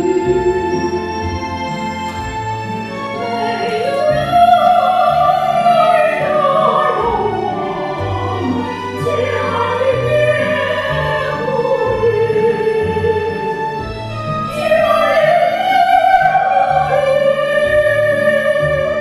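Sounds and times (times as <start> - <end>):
women singing operatic duet: 0.0 - 1.8, 3.1 - 13.8, 14.4 - 19.0
instrumental accompaniment: 0.0 - 19.0.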